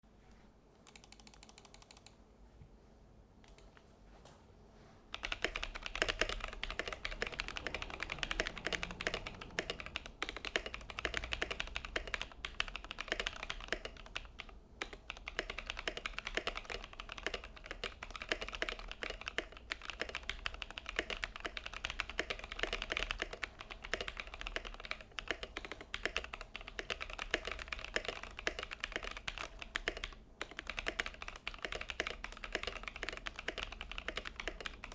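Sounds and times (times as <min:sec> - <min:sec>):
typing on mechanical keyboard: 0:00.8 - 0:02.2, 0:05.1 - 0:34.9.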